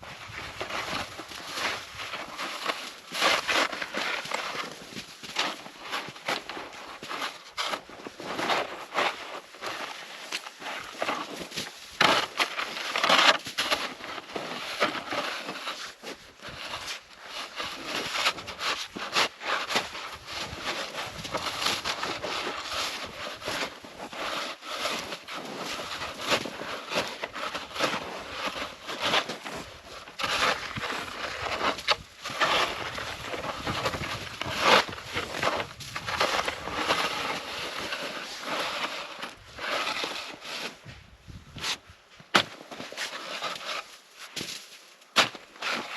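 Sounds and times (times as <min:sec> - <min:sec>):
shovel crunching and scraping snow: 0:00.0 - 0:45.9.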